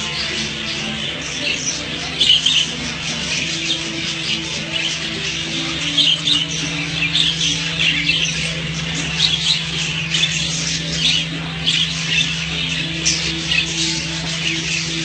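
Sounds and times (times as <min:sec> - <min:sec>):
cage birds squawking and chirping: 0:00.0 - 0:15.0
steady low hum: 0:00.0 - 0:15.0.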